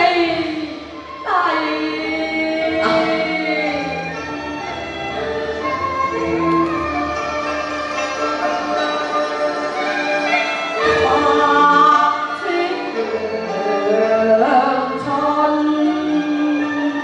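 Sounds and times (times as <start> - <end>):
opera singing with sliding notes: 0.0 - 6.6, 8.7 - 17.0.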